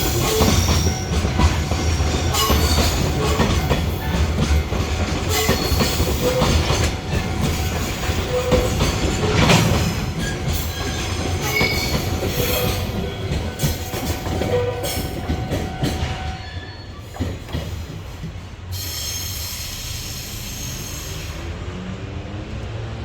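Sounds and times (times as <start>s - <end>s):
high wheel squeals: 0.0s - 4.2s, 5.2s - 17.4s, 18.7s - 21.5s
wheels clicking over rail joints: 0.0s - 18.4s
freight train rumble: 0.0s - 23.0s.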